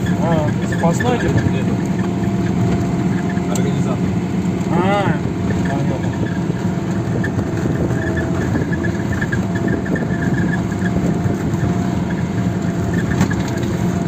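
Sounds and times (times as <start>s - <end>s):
car engine rumble inside cabin: 0.0s - 14.0s.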